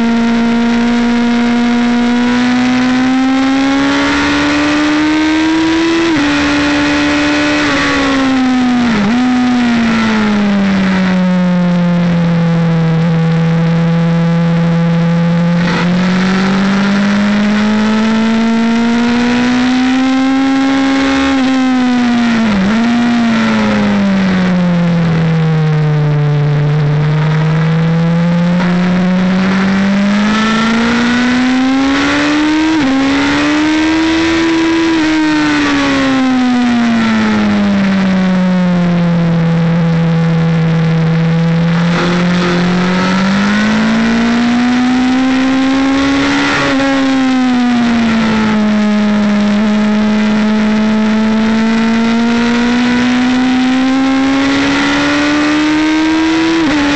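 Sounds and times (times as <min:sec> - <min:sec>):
motorbike engine revving: 0:00.0 - 0:56.9
wind and road noise: 0:00.0 - 0:56.9.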